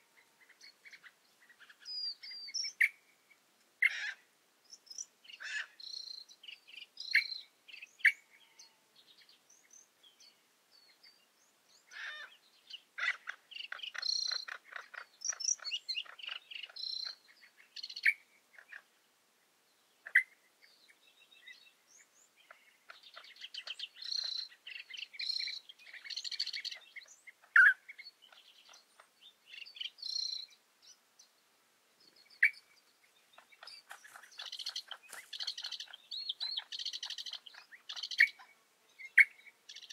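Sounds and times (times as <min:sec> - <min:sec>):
birds chirping and trilling: 0:00.0 - 0:19.1, 0:19.7 - 0:39.9.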